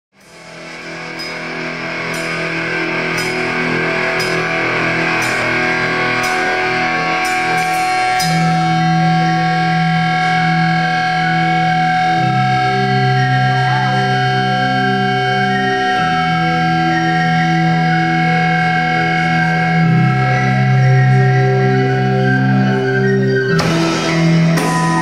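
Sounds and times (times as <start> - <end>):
metal band playing: 0.2 - 25.0
sustained guitar chords: 0.2 - 25.0.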